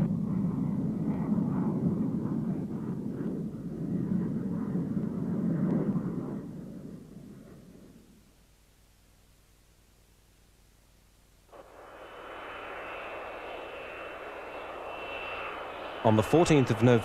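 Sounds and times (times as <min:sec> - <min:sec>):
jet engine rumble: 0:00.0 - 0:08.4, 0:11.5 - 0:17.0.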